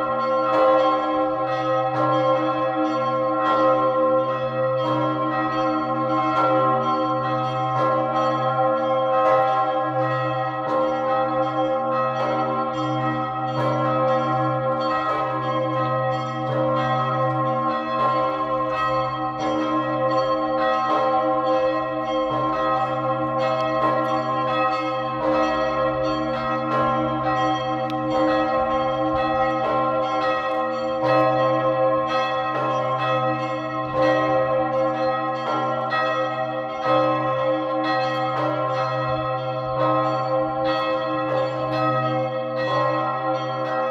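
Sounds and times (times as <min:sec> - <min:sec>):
large church bell ringing: 0:00.0 - 0:43.9.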